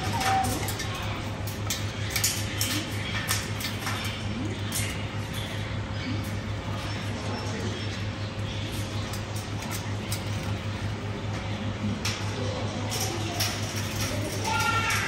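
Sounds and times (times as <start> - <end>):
birds clicking and tapping: 0.0 - 15.0
steady low hum: 0.0 - 15.0.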